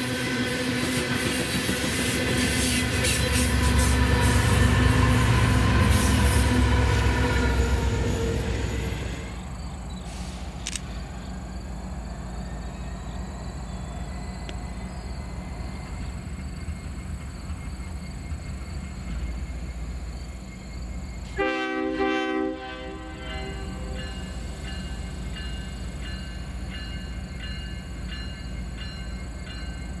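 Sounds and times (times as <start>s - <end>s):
diesel locomotives passing: 0.0s - 30.0s
distant locomotive rumble: 0.0s - 30.0s.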